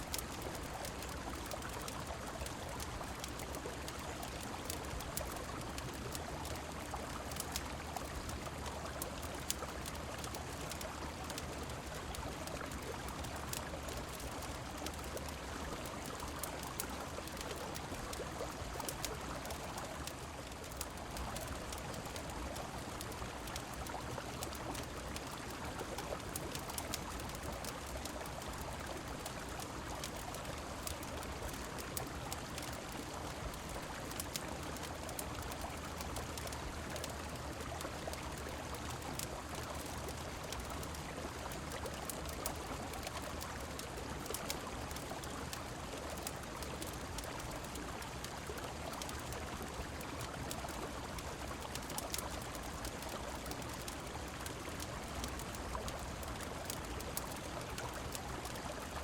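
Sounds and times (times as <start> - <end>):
falling rain: 0.0 - 59.0
small sharp ticks: 0.0 - 59.0.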